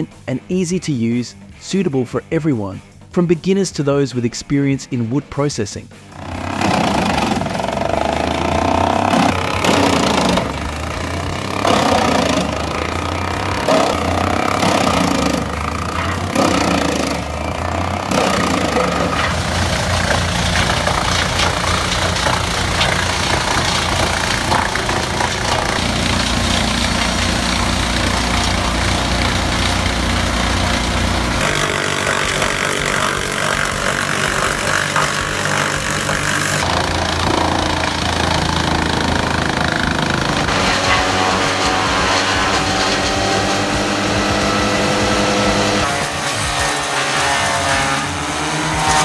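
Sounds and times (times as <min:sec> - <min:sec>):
wood chippers running: 0:06.0 - 0:49.0.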